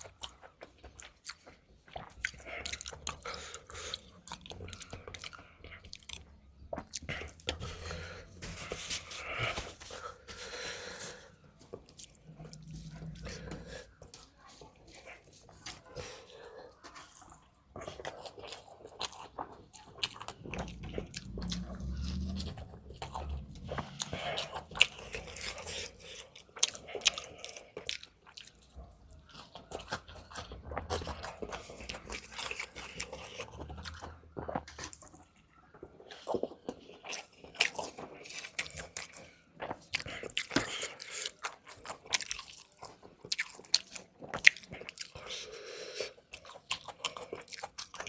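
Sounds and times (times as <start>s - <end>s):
chewing crunchy food: 0.0s - 48.0s.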